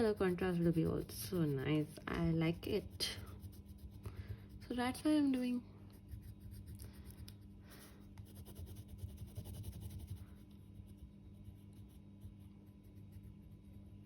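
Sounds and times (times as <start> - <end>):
colouring strokes scratching paper: 0.0 - 14.0
low steady hum: 0.0 - 14.0.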